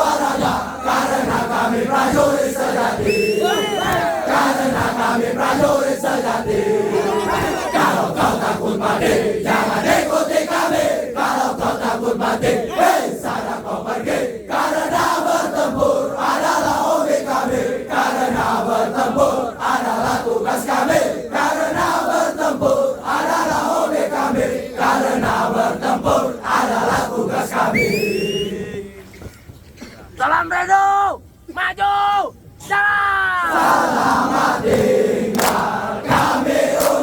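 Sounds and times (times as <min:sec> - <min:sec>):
group of men chanting and shouting: 0:00.0 - 0:29.0, 0:32.7 - 0:37.0.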